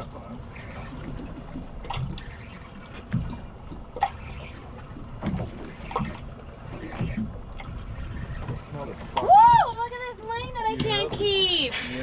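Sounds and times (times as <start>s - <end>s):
low rumble of sea and wind: 0.0s - 12.0s
water slapping against boat hull: 0.0s - 12.0s.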